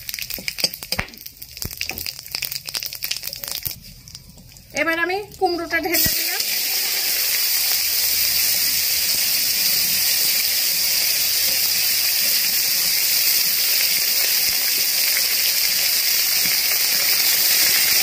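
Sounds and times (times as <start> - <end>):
vegetables sizzling in hot oil: 0.0 - 4.1, 5.4 - 18.0.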